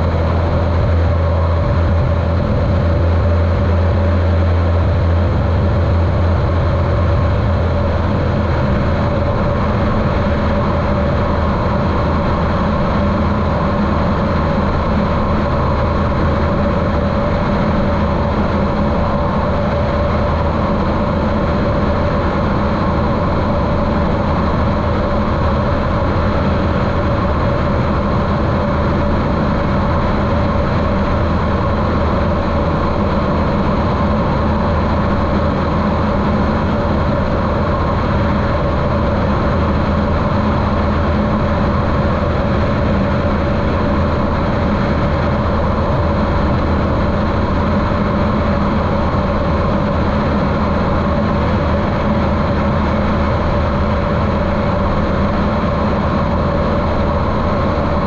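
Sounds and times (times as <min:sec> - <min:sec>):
muffled airplane engine and propeller: 0:00.0 - 0:58.0.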